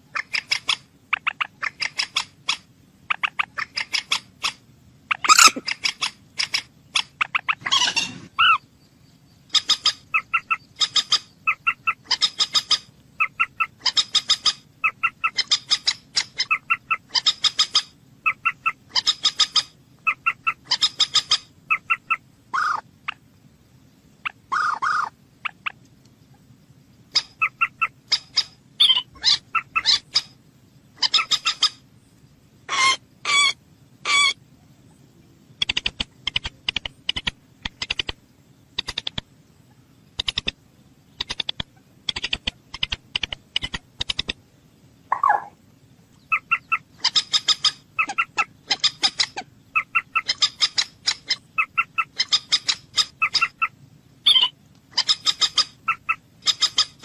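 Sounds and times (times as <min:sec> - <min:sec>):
moorhen calling: 0:00.0 - 0:23.3, 0:24.2 - 0:31.9, 0:32.6 - 0:38.2, 0:45.0 - 0:57.0.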